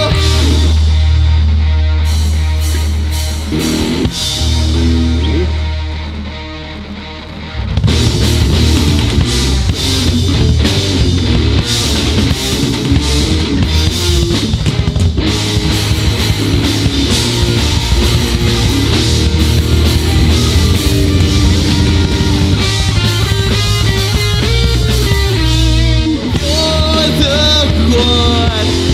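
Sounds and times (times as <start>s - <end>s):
bass guitar: 0.0s - 28.9s
drum kit: 0.0s - 28.9s
electric guitars: 0.0s - 28.9s.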